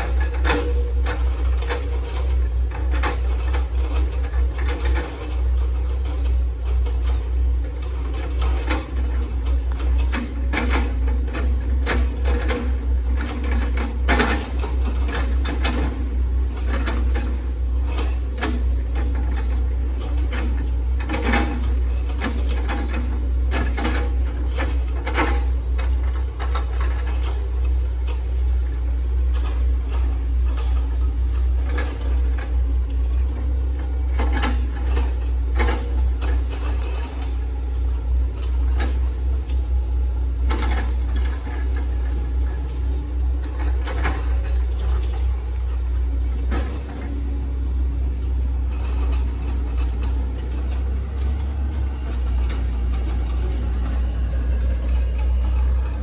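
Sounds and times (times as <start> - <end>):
excavator diesel engine rumbling: 0.0 - 56.0.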